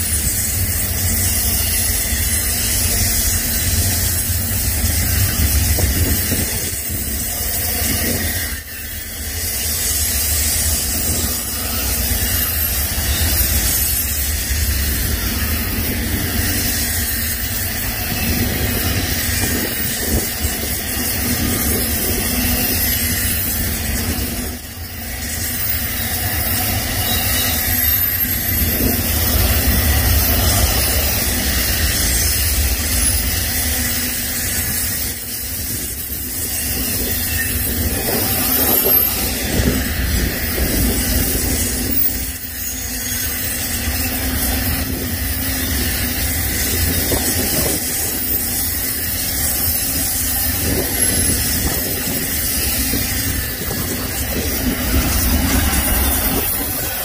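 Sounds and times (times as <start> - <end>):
freight train rumbling past: 0.0 - 57.0
wheels hissing on rail: 0.0 - 57.0.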